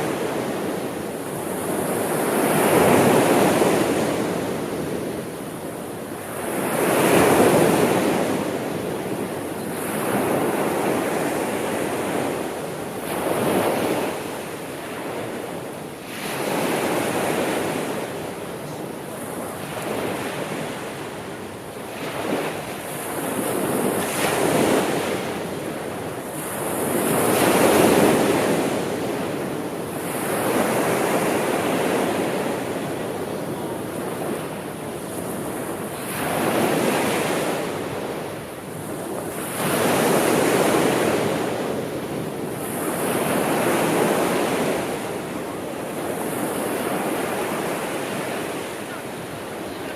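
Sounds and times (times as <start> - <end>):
sea waves washing on shore: 0.0 - 49.9.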